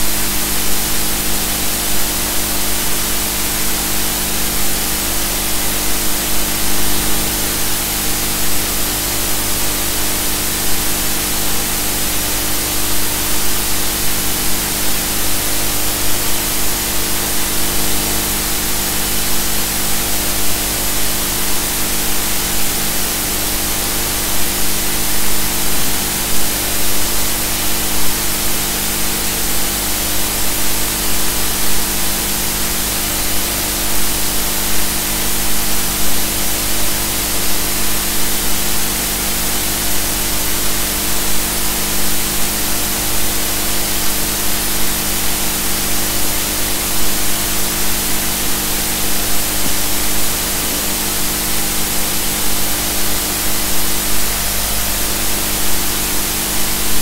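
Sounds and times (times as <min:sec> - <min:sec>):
loud steady hiss: 0:00.0 - 0:57.0.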